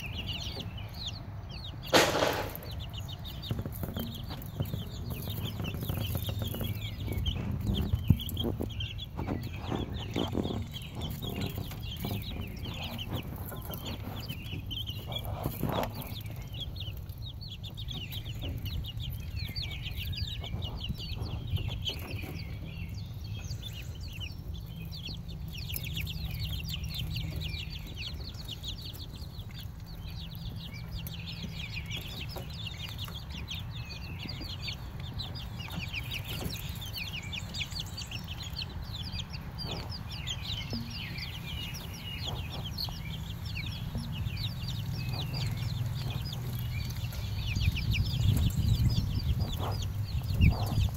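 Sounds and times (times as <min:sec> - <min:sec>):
chicks and ducklings peeping: 0:00.0 - 0:50.9
steady low rumble: 0:00.0 - 0:50.9.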